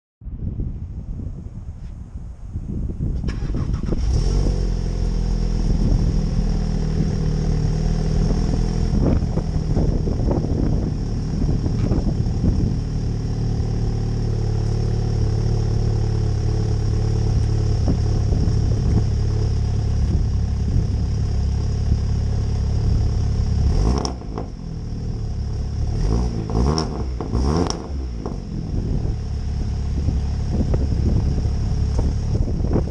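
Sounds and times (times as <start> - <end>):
car engine starting and idling: 3.0 - 32.9
engine throttle blips: 3.2 - 32.9.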